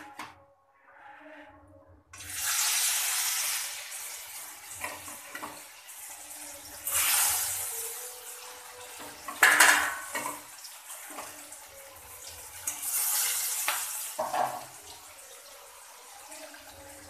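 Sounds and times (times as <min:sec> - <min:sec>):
fish sizzling in hot oil: 0:02.2 - 0:17.0.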